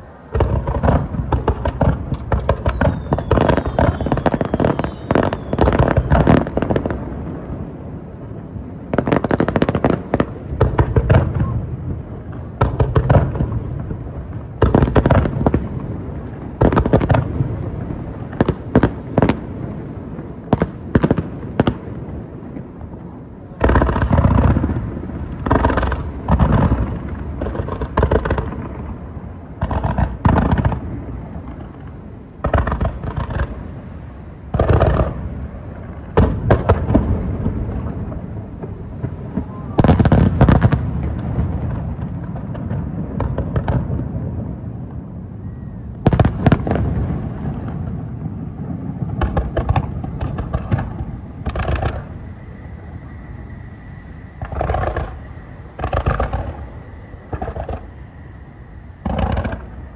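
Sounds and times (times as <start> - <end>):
fireworks bursting in bangs: 0.0 - 8.1, 8.9 - 44.3, 45.7 - 52.2, 54.2 - 58.3, 58.9 - 59.9.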